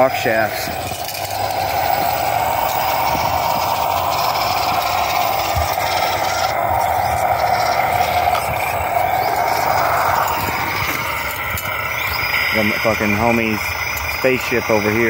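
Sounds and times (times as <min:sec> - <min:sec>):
electric motor and gearbox whining: 0:00.0 - 0:15.0.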